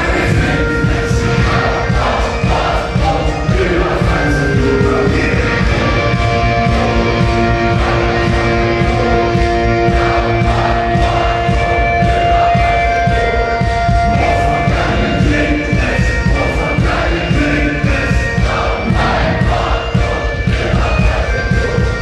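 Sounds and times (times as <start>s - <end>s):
bagpipes holding long notes: 0.0s - 22.0s
crowd singing along: 0.0s - 22.0s
fast driving drums: 0.0s - 22.0s
rock band playing loudly: 0.0s - 22.0s.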